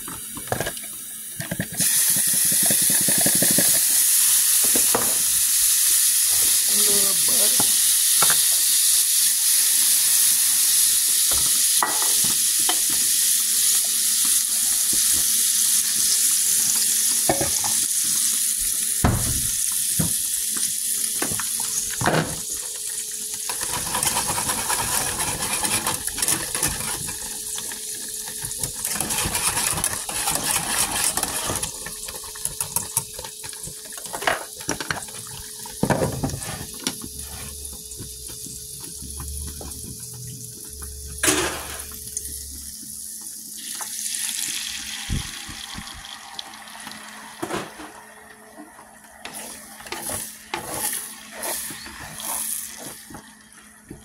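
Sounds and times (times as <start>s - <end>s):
grease sizzling in a skillet: 0.0s - 48.1s, 49.2s - 53.5s.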